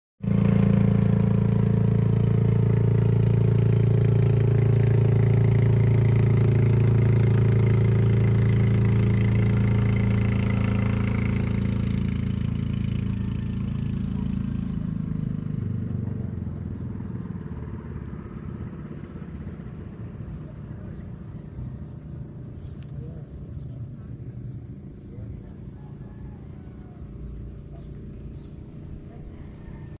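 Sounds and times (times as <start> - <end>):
small boat engine running: 0.2 - 30.0.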